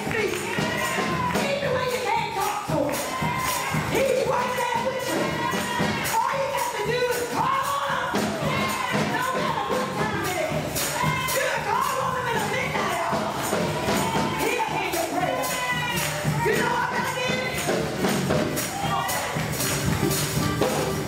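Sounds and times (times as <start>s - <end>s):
gospel choir singing: 0.0s - 21.0s
instrumental accompaniment: 0.0s - 21.0s
percussion beat: 0.0s - 21.0s.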